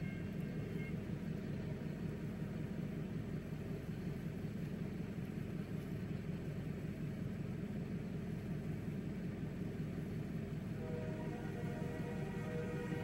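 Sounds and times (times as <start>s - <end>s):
car engine idling: 0.0s - 13.0s
car heater blowing: 0.0s - 13.0s.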